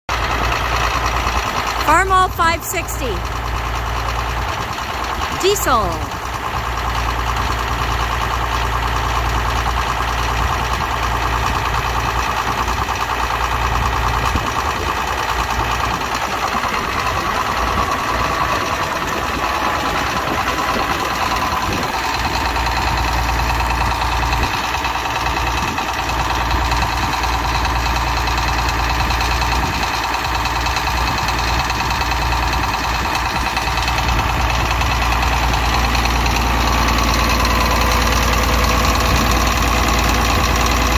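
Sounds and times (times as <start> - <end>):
tractor diesel engine idling: 0.1 - 40.9.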